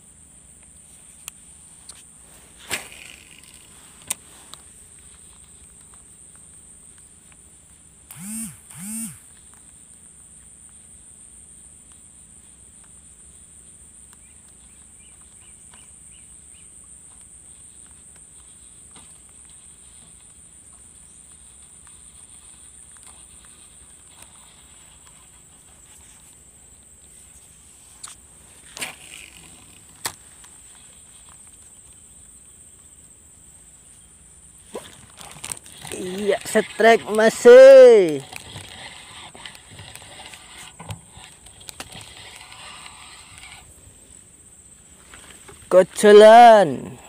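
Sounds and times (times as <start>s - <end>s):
insect chorus droning: 0.0s - 47.0s.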